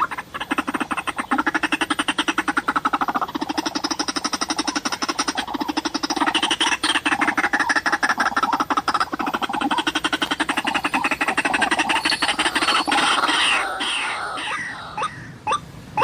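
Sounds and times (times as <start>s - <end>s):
bird harsh repeated croaking: 0.0s - 16.0s.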